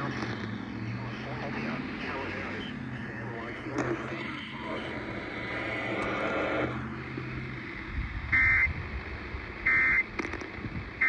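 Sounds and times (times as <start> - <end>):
harsh buzzing data bursts: 0.0 - 11.0
radio static: 0.0 - 11.0.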